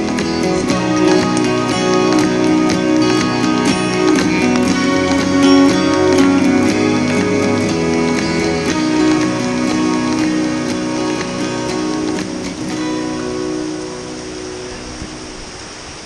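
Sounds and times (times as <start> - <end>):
guitar music: 0.0 - 15.8
rushing water: 0.0 - 16.0.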